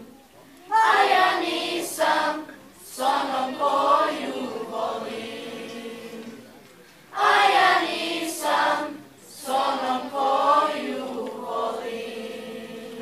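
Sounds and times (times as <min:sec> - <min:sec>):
children's choir singing: 0:00.7 - 0:13.0.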